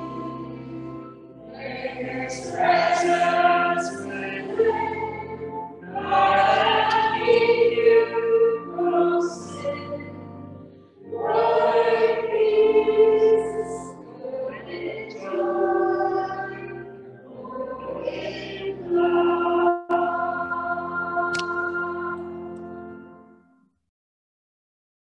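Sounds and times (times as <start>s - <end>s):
group singing in chorus: 0.0s - 10.3s, 11.0s - 22.4s.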